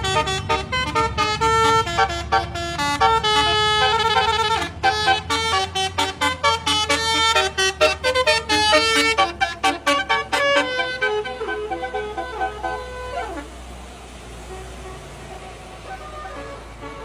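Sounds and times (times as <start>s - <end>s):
multi-tone horn melody: 0.0s - 17.0s.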